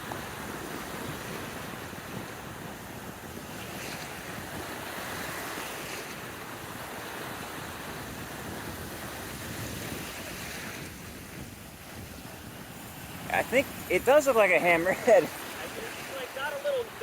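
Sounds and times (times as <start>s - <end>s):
ocean surf: 0.0s - 17.0s
wind: 0.0s - 17.0s
wind buffeting microphone: 0.0s - 17.0s.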